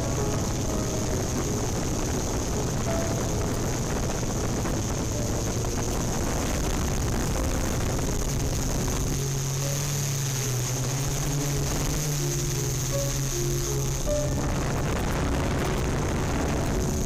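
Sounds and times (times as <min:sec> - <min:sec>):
quadcopter motors whirring: 0:00.0 - 0:17.0.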